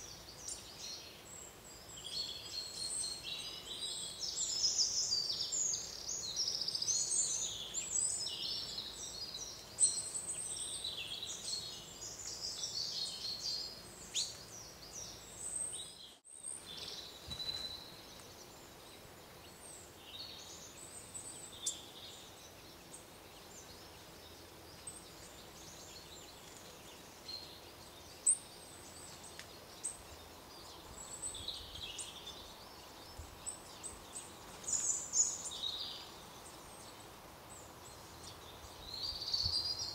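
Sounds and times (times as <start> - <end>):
quiet forest ambience: 0.0 - 39.9
songbirds chirping and singing: 0.0 - 39.9.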